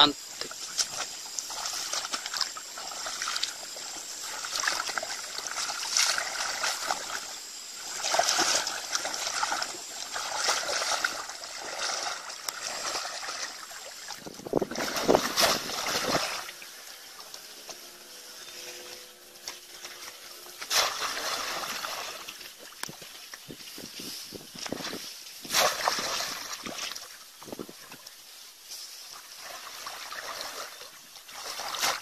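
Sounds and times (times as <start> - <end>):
feet splashing through shallow water: 0.4 - 32.0.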